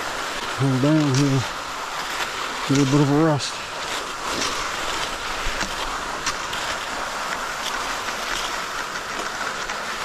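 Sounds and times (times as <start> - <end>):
skis scraping through snow: 0.0 - 10.0
faint ski clicks: 0.4 - 10.0.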